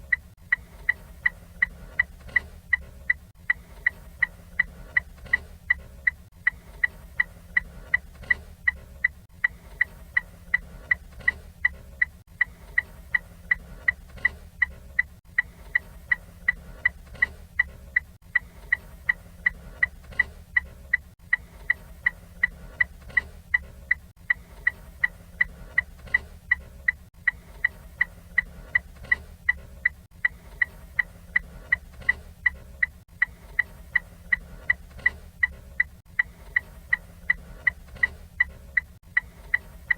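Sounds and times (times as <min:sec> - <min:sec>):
turn signal ticking: 0:00.0 - 0:39.9.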